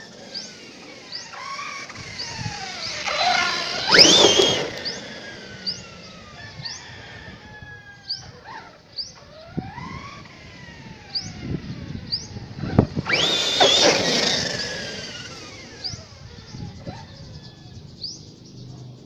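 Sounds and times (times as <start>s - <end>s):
rc truck motor whine: 0.0s - 18.6s.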